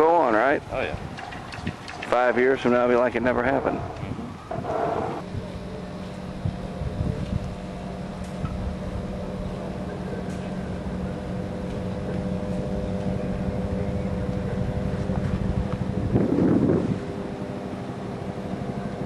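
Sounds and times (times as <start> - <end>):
engine hum with held tones: 0.0 - 19.0.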